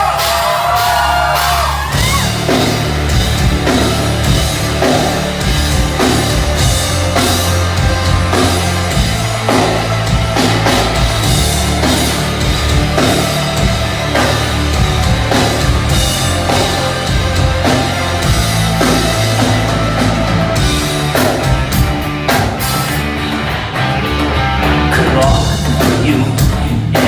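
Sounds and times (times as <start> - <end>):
distorted guitars: 0.0 - 27.0
drums beating: 0.0 - 27.0
rock band playing live: 0.0 - 27.0.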